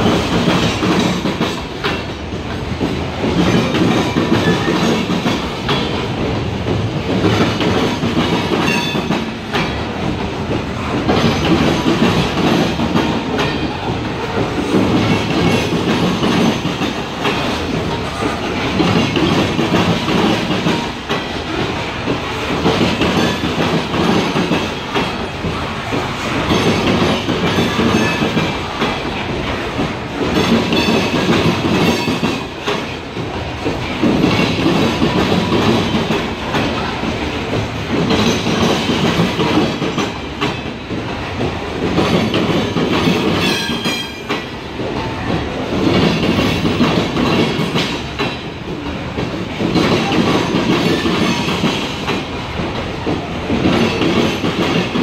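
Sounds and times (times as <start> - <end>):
train wheels clacking over rail joints: 0.0 - 55.0.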